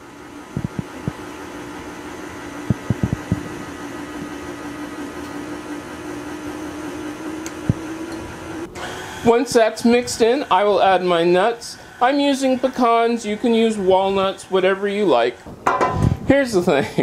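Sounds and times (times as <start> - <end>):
stand mixer motor hum: 0.0 - 14.9.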